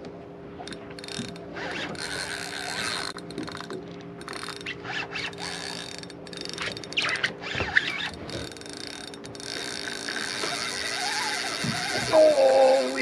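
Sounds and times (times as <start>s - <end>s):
fishing reel clicking and ratcheting: 0.6s - 13.0s.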